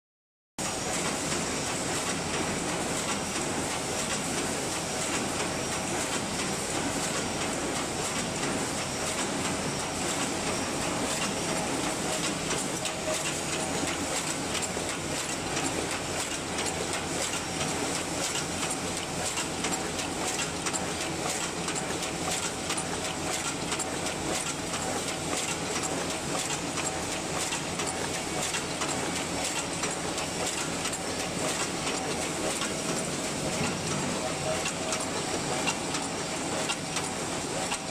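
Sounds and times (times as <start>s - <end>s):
machine clattering: 0.8s - 37.9s.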